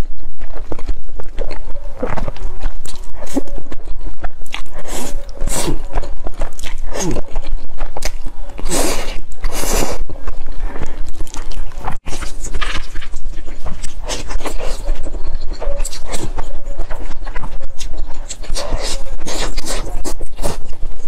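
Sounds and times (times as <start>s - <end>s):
chewing and lip smacks: 0.0s - 21.0s.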